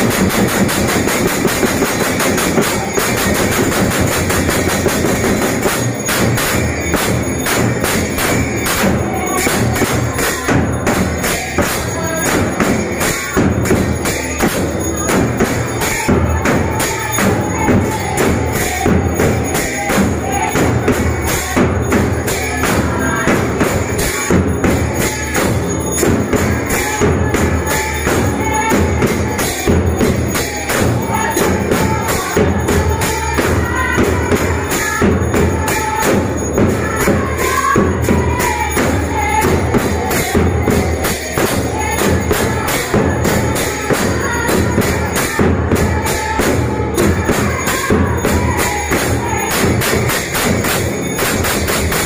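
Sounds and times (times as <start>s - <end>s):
barrel drum beaten fast: 0.0s - 52.0s
brass hand cymbals: 0.0s - 52.0s
women singing: 8.2s - 50.4s.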